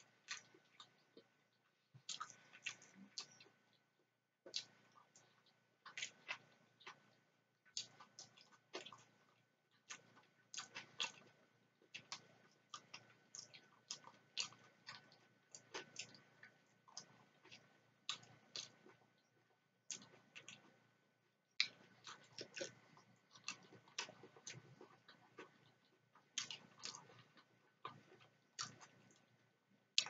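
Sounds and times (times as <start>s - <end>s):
mouth chewing clicks and smacks: 0.0s - 30.0s.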